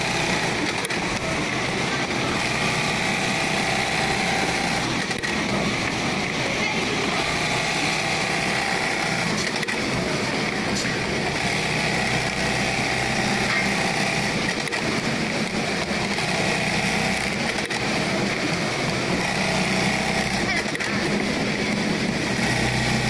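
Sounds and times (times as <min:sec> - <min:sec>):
sewing machine stitching: 0:00.0 - 0:23.0.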